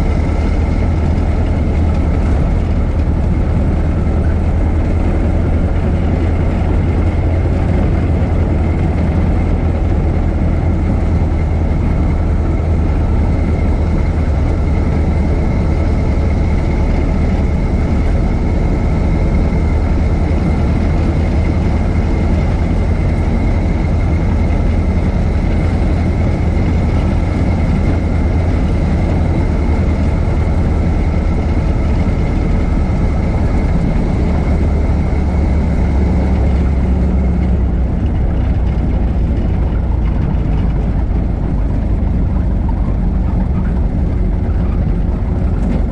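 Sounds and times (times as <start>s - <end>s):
car engine running: 0.0s - 45.9s
faint steady whine: 0.0s - 45.9s.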